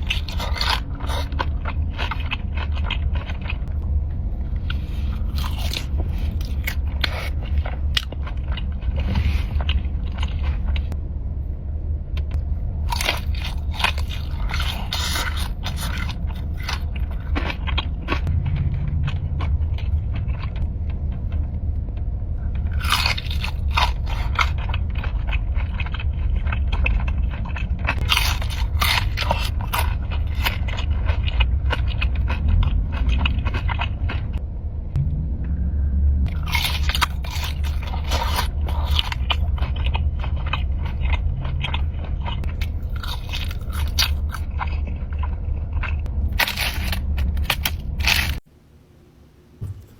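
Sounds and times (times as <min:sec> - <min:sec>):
crunchy food chewing: 0:00.0 - 0:11.0, 0:12.2 - 0:34.4, 0:36.3 - 0:48.5
low rumble: 0:00.0 - 0:49.9.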